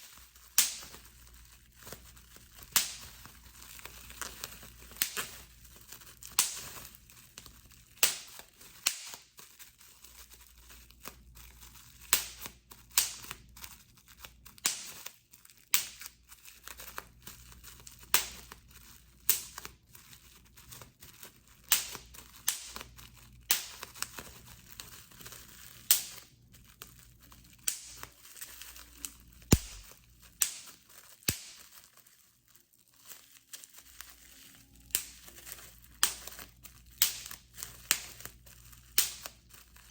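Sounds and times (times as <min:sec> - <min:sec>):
bubble wrap popping: 0:00.0 - 0:39.9
plastic sheet crinkling: 0:00.0 - 0:39.9.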